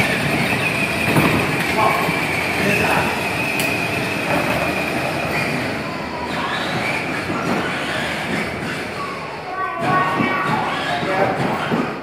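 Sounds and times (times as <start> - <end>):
plastic wheels rolling on concrete: 0.0 - 12.0.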